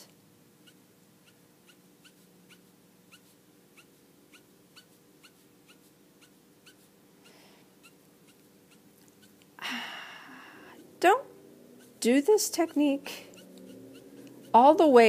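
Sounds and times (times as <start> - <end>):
marker nib squeaking on paper: 0.6 - 9.5, 11.8 - 15.0.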